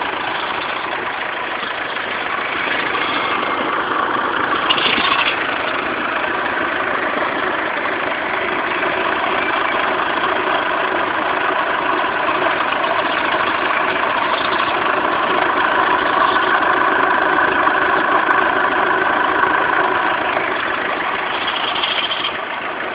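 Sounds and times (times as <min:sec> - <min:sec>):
diesel engine idling: 0:00.0 - 0:22.9
engine chirp: 0:00.0 - 0:22.9.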